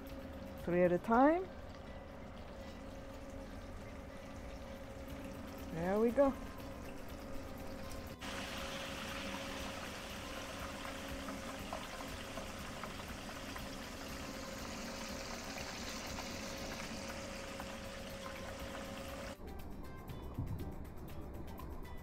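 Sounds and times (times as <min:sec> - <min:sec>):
chicken deep-frying in oil: 0:00.0 - 0:19.4.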